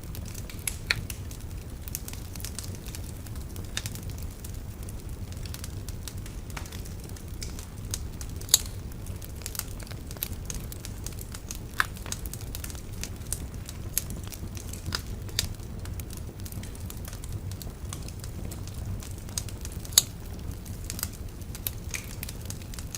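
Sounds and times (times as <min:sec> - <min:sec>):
bonfire crackling: 0:00.0 - 0:22.9
fire popping and snapping: 0:00.0 - 0:22.9
low rumble of flame: 0:00.0 - 0:22.9.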